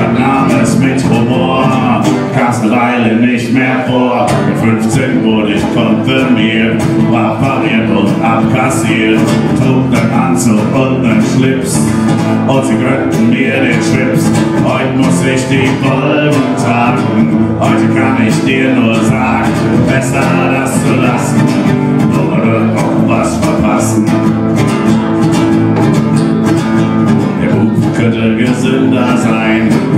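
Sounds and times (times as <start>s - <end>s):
acoustic guitar strummed: 0.0s - 29.9s
man singing: 0.0s - 29.9s.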